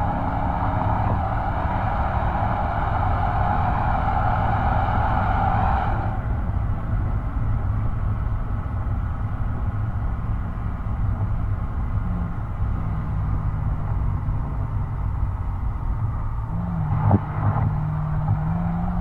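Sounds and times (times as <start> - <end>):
car exhaust droning: 0.0 - 19.0.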